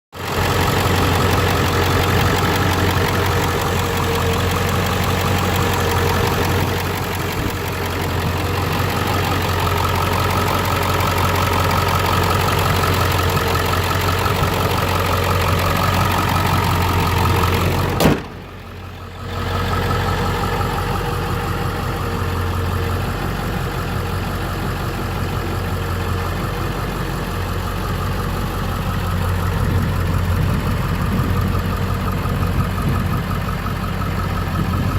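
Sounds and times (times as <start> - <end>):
diesel engine idling: 0.2 - 34.9.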